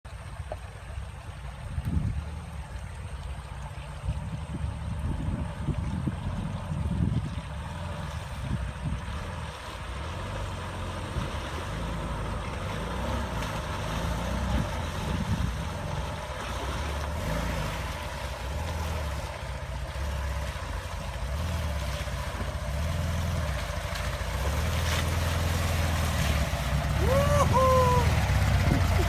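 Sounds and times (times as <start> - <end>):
water rushing: 0.1 - 29.0
off-road vehicle engine revving: 4.6 - 29.0.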